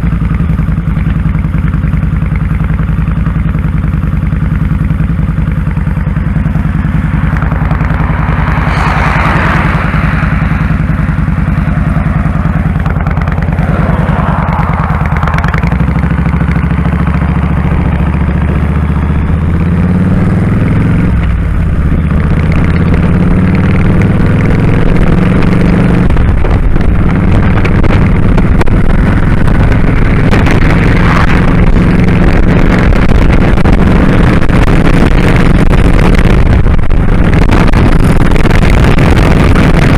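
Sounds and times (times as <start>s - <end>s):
motorcycle engine running: 0.0s - 39.9s
rushing noise: 6.0s - 39.9s.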